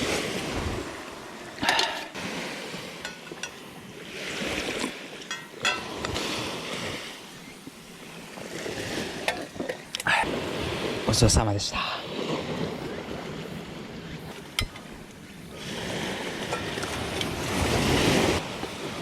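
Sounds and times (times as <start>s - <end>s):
small waves washing ashore: 0.0s - 19.0s.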